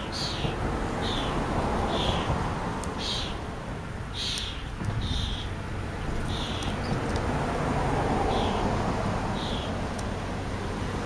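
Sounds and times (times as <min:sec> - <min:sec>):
sparrow chirping: 0:00.0 - 0:07.2, 0:08.2 - 0:10.0.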